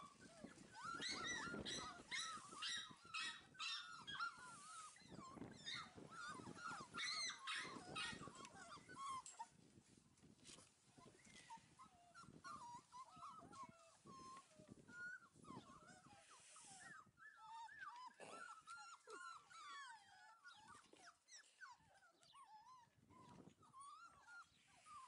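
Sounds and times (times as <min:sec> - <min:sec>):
puppies whining: 0:00.0 - 0:09.6, 0:11.0 - 0:25.0.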